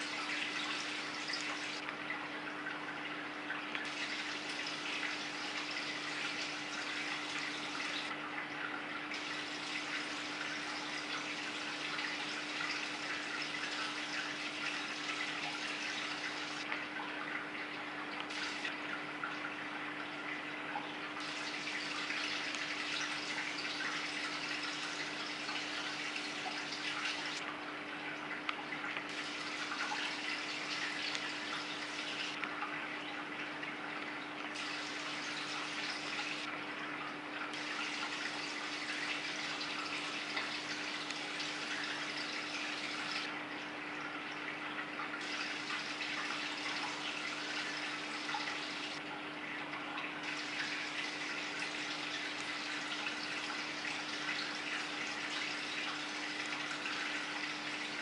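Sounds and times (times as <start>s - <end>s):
aquarium water splashing: 0.0s - 58.0s.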